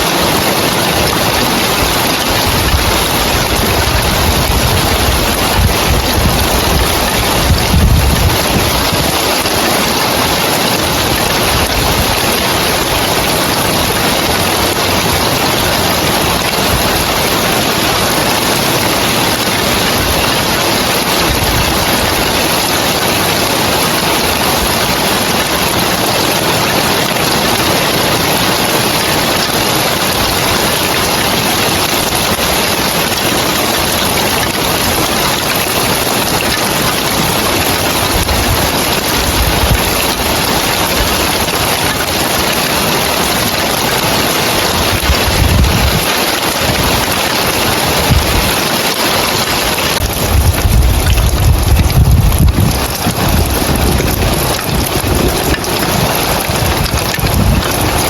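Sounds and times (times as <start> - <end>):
heavy rain on a tiled roof: 0.0 - 58.0.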